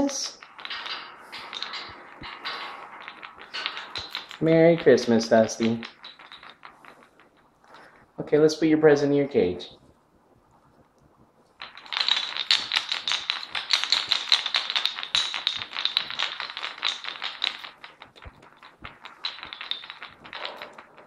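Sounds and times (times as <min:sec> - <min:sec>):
metallic clicking and rattling: 0:00.0 - 0:08.3, 0:10.8 - 0:21.0.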